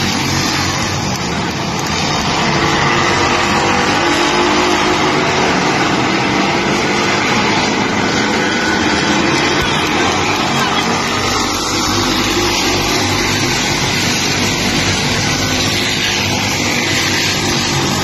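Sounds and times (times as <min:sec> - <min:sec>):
race cars racing past: 0:00.0 - 0:18.0.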